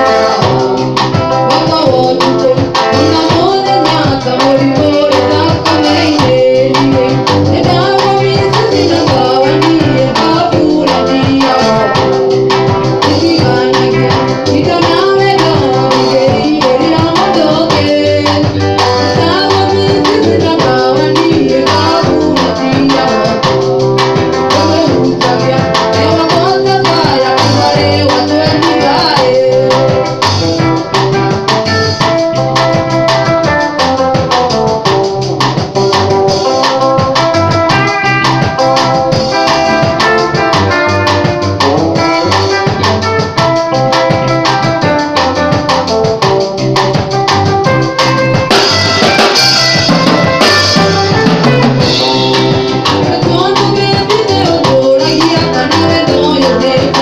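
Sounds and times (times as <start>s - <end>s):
woman singing into a microphone: 0.0s - 31.3s, 35.8s - 46.0s, 50.6s - 57.0s
drum kit steady beat: 0.0s - 57.0s
electric guitars: 0.0s - 57.0s.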